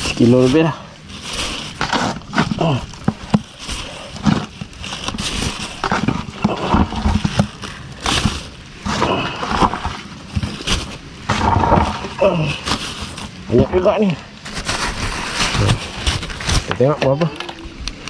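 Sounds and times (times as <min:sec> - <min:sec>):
plastic bag rustling: 0:00.0 - 0:18.0.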